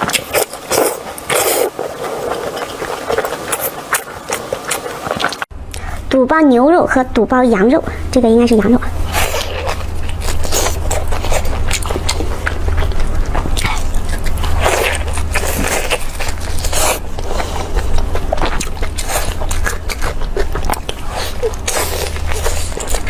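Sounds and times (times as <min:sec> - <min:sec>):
chewing and biting food: 0:00.0 - 0:06.0, 0:06.9 - 0:23.0.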